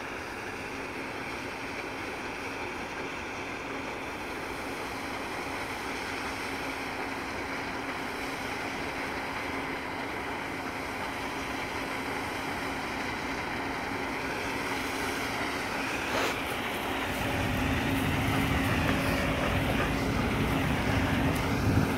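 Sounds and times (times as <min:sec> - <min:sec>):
combine harvester droning: 0:00.0 - 0:21.9.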